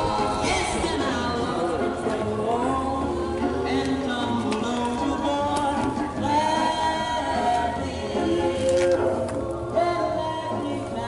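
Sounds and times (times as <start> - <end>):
person singing long notes: 0.0 - 11.0.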